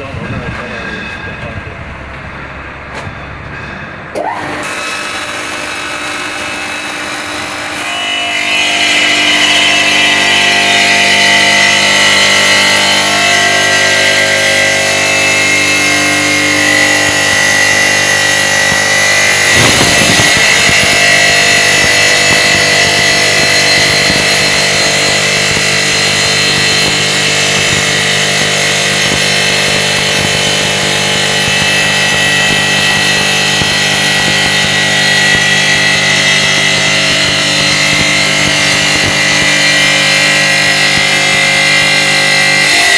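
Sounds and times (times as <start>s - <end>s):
saw blade cutting stone: 3.6s - 42.9s.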